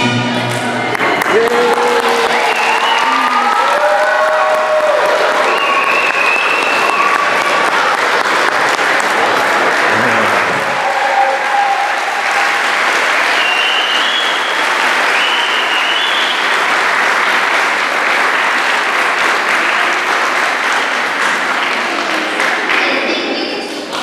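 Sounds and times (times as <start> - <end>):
audience applauding: 0.4 - 23.2.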